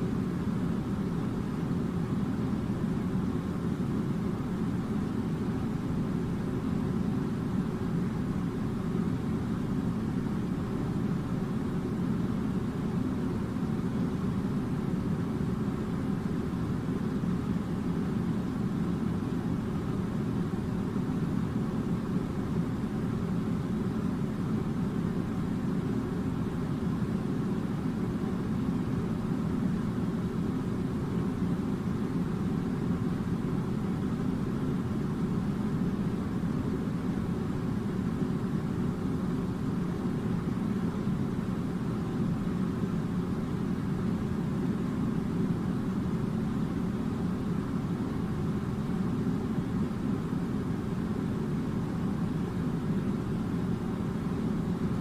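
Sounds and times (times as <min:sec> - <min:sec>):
air conditioner droning: 0:00.0 - 0:55.0.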